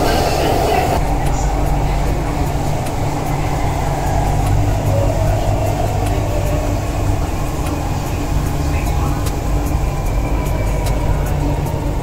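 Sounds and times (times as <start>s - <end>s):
train rumbling in tunnel: 0.0s - 12.0s
train whine: 0.0s - 12.0s.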